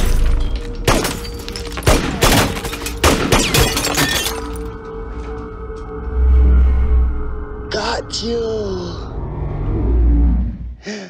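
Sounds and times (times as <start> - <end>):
film music score: 0.0 - 11.0.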